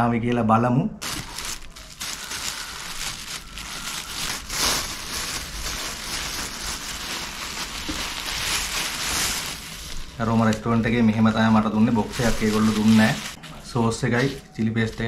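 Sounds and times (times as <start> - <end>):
plastic bag crinkling and rustling: 1.0 - 15.0.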